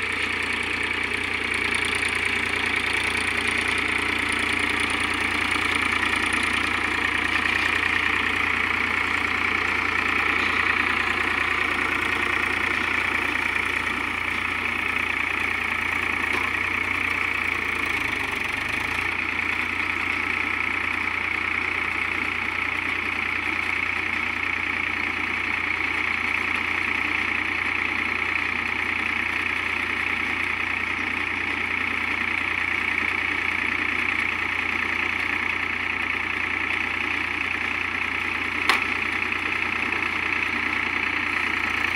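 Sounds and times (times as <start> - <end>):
tractor engine running under load: 0.0 - 41.9.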